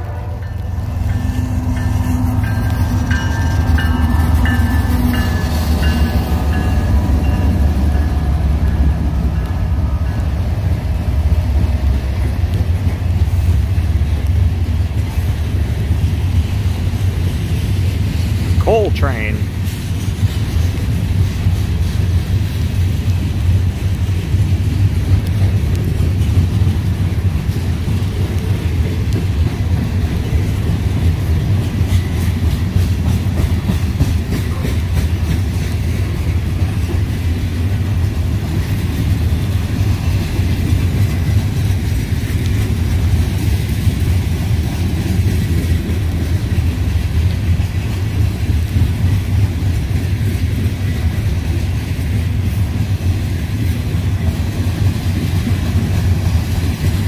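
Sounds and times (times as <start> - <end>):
train cars rumbling past: 0.0 - 57.0.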